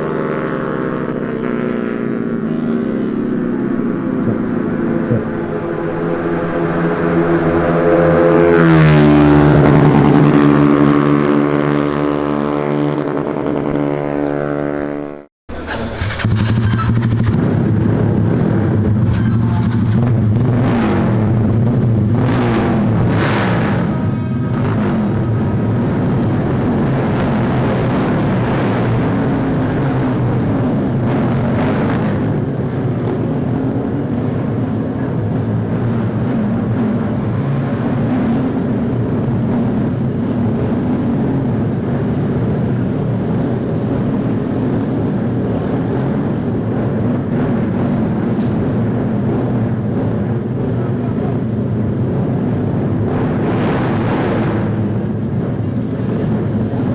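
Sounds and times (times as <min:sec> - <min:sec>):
racing motorcycle passing by: 0:00.0 - 0:51.5, 0:52.1 - 0:56.9
another engine: 0:00.0 - 0:56.9.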